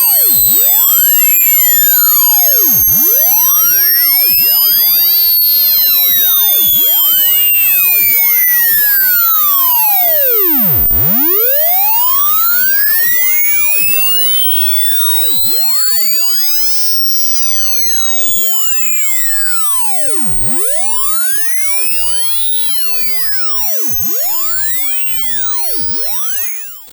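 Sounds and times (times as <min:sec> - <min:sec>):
sine tone sweeping upward: 0:00.0 - 0:26.9.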